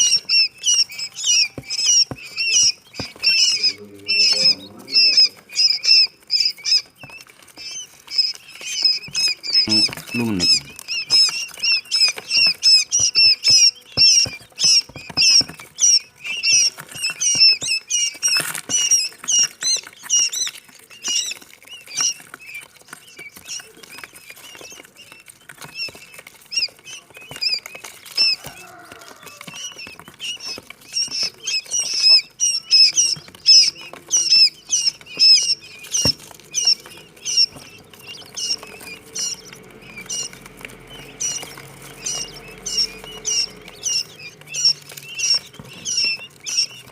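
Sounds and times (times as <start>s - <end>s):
quail chicks peeping: 0.0s - 46.9s.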